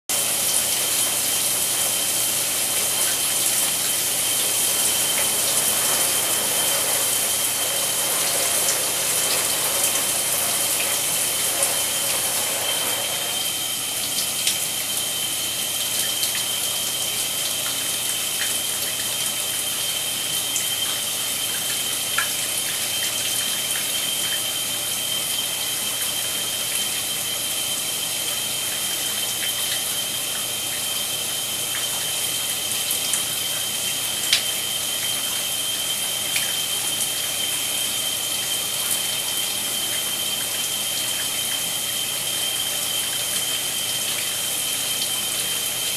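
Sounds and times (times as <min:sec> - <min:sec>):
shower spray running: 0:00.1 - 0:45.9.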